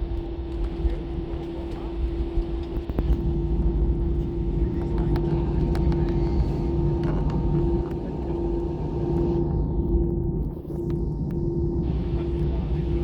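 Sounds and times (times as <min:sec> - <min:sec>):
constant hum tone: 0:00.0 - 0:13.0
engine and wheel rumble: 0:00.0 - 0:13.0.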